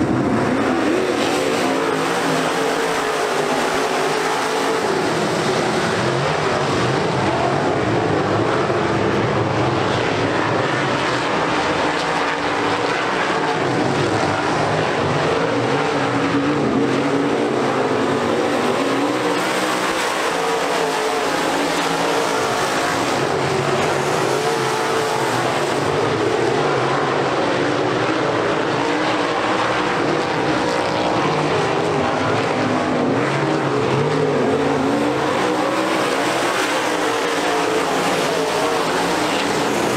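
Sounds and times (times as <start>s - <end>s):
race car engines droning: 0.0s - 39.9s.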